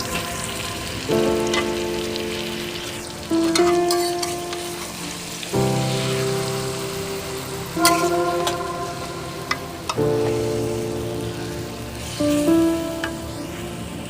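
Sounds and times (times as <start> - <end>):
background music chords: 0.0 - 14.0
meat sizzling in hot oil: 0.0 - 14.0.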